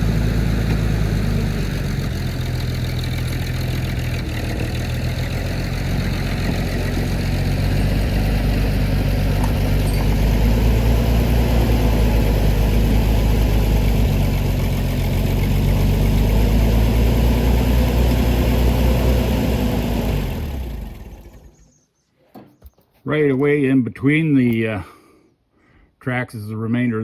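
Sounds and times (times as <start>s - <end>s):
engine idling and running down: 0.0s - 21.8s.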